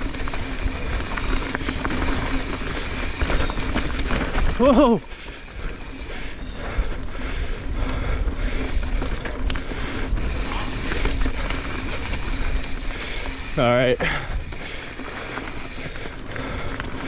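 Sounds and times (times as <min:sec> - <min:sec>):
bike rattling and knocking: 0:00.0 - 0:17.0
tyres on dirt: 0:00.0 - 0:17.0.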